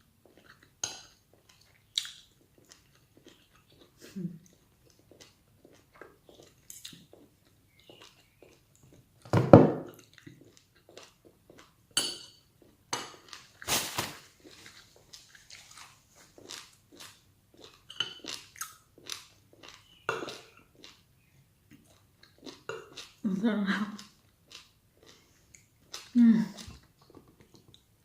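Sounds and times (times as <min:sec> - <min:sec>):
chewing and biting food: 0:00.2 - 0:09.2, 0:09.9 - 0:11.8, 0:14.4 - 0:21.1, 0:21.7 - 0:23.2, 0:23.9 - 0:27.9.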